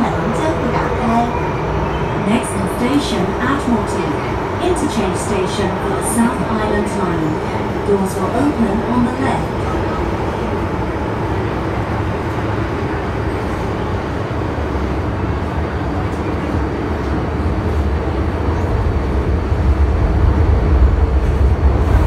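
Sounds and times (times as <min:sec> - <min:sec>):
underground train cabin rumble: 0:00.0 - 0:22.0.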